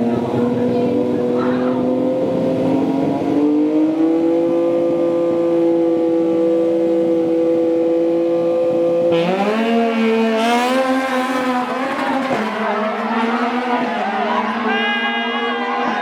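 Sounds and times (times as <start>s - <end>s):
motorcycle engine revving and accelerating: 0.0s - 14.7s.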